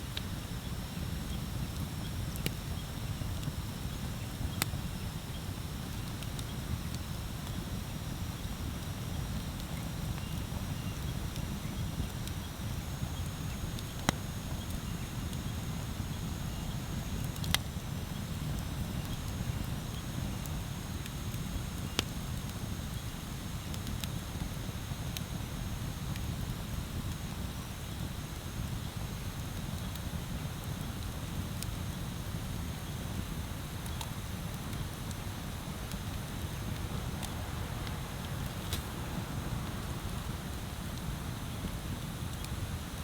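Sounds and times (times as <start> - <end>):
bonfire crackling: 0.1 - 43.0.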